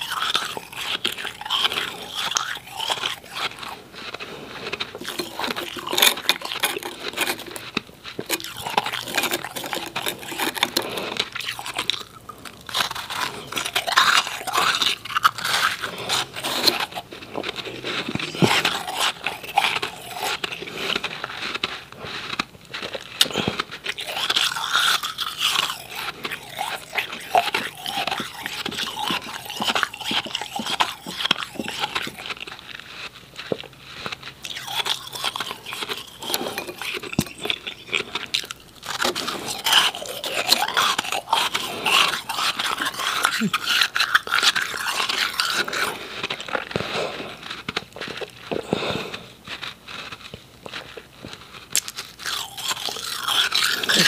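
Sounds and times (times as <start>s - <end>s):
ice cubes being chewed: 0.0s - 54.0s.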